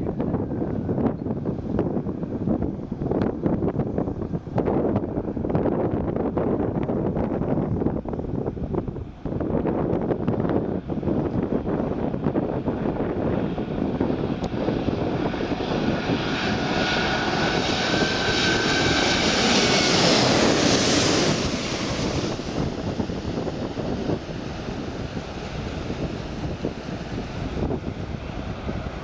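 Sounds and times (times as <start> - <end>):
jet plane passing: 0.0 - 29.0.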